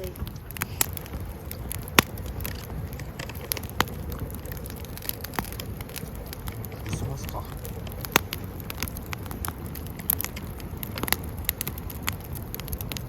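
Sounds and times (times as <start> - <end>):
campfire crackling: 0.0 - 13.0
fire popping: 0.0 - 13.0.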